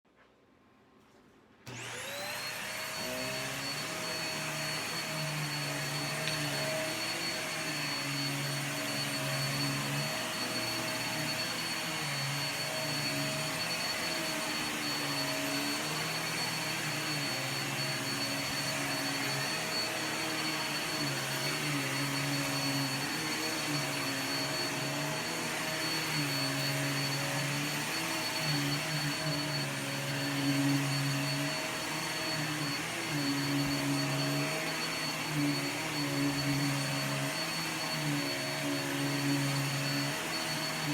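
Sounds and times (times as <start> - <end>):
vacuum cleaner running: 1.6 - 40.9.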